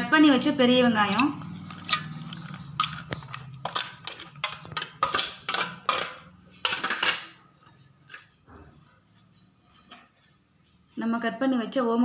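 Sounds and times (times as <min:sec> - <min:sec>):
utensil scraping a dish: 0:01.1 - 0:11.0.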